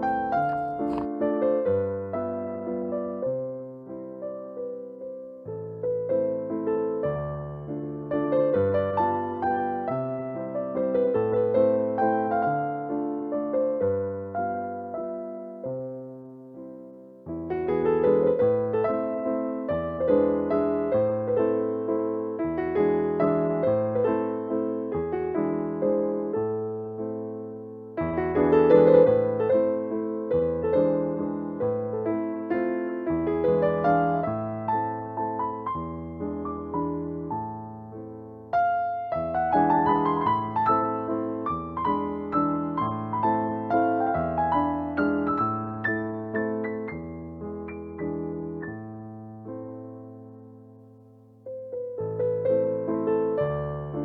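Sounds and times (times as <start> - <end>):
gentle piano piece: 0.0 - 54.0.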